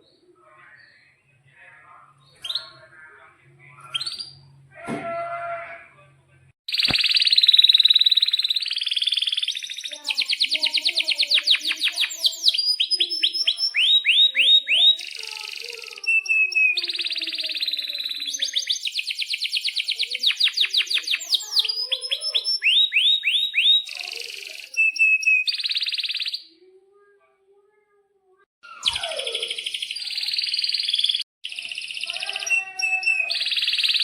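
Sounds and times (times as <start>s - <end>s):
canary singing trills and chirps: 0.0s - 3.1s, 3.7s - 4.6s, 6.7s - 26.8s, 28.6s - 34.0s.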